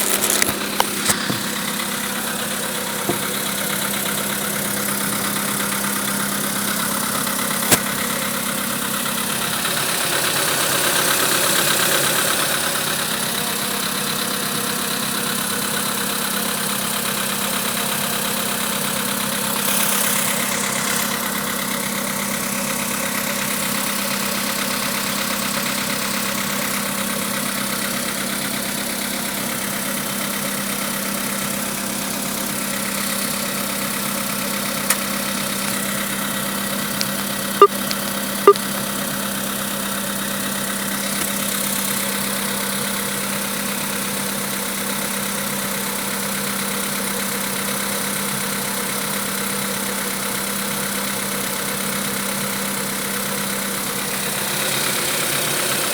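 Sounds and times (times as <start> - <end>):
engine idling with a knock: 0.0 - 50.9.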